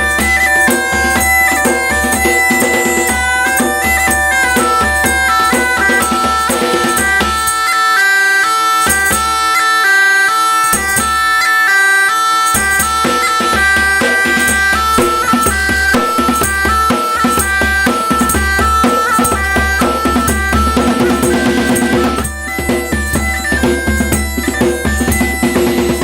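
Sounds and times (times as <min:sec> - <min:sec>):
hand drum beating: 0:00.0 - 0:07.7, 0:12.5 - 0:26.0
bagpipes playing: 0:00.0 - 0:26.0.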